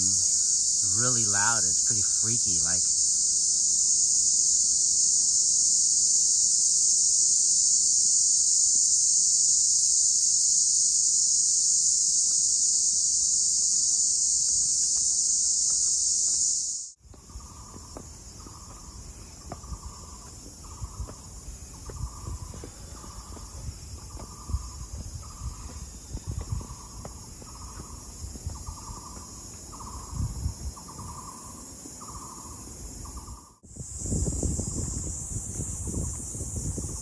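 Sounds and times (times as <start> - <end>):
cicadas buzzing loudly: 0.0 - 37.0.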